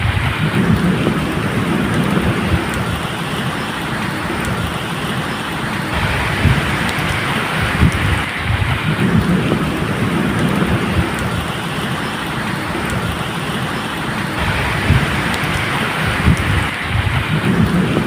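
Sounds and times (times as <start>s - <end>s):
rolling thunder: 0.0s - 18.0s
steady rain: 0.0s - 18.0s.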